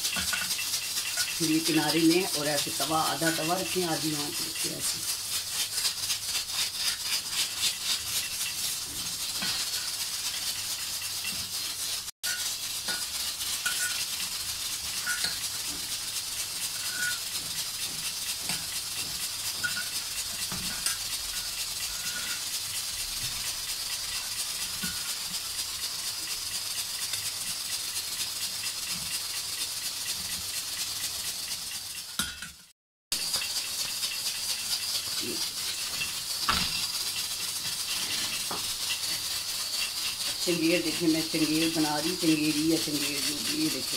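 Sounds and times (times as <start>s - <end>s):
gas stove burner hissing: 0.0s - 43.9s
rapid rattling crackle: 0.0s - 43.9s.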